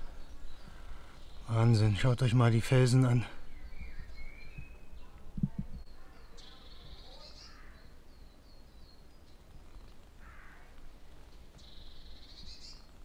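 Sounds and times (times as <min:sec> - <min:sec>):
bird chirps: 0:00.0 - 0:13.0
songbird singing: 0:00.0 - 0:13.0.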